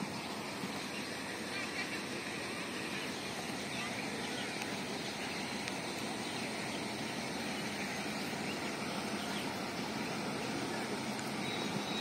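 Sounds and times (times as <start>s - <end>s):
faint high chirps: 0.0s - 12.0s
outdoor rural background noise: 0.0s - 12.0s.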